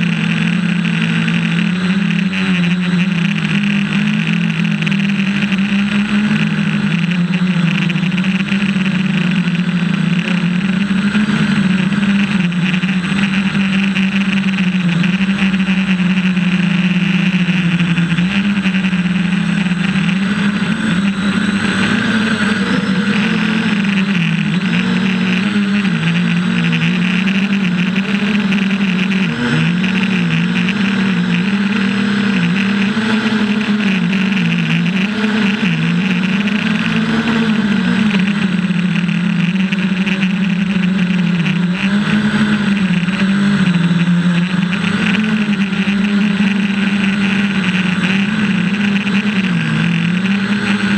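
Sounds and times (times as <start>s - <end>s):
quadcopter motors buzzing: 0.0s - 50.9s.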